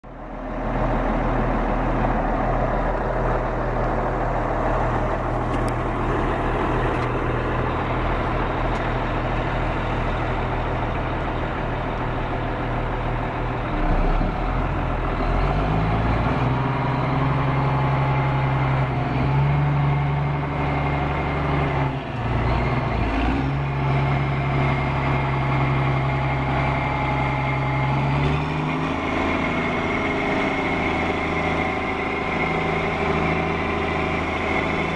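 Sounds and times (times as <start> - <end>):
grader diesel engine revving: 0.1 - 34.9.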